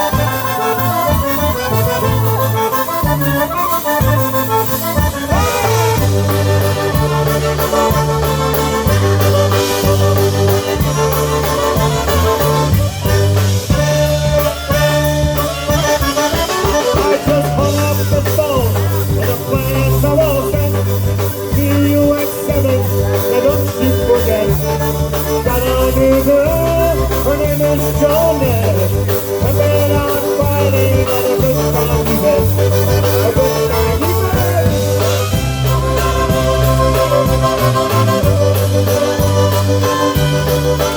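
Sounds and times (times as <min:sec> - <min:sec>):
bouncing bass line: 0:00.0 - 0:40.9
polka band playing: 0:00.0 - 0:40.9.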